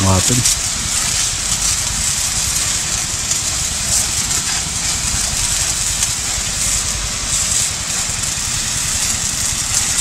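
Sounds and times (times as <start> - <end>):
power sprayer engine running: 0.0 - 10.0
water jet hissing: 0.0 - 10.0.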